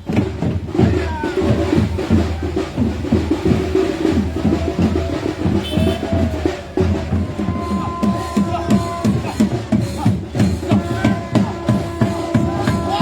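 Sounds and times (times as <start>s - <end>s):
drums and percussion: 0.0s - 13.0s.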